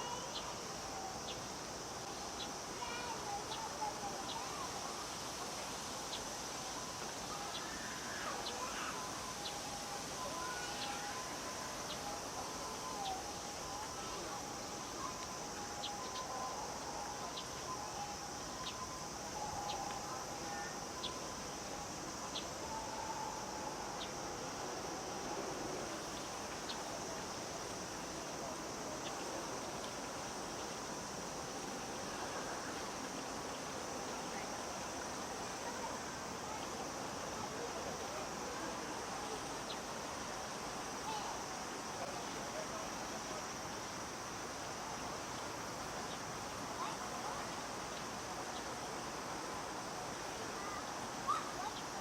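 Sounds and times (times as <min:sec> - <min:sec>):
cicadas droning: 0:00.0 - 0:52.0.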